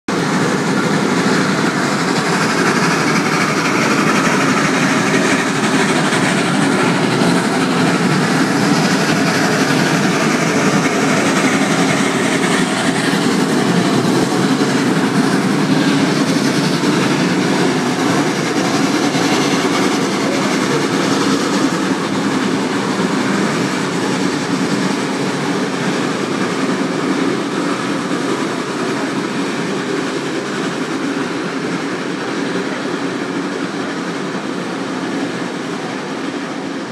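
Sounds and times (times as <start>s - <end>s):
train wheels on rails: 0.1s - 36.9s.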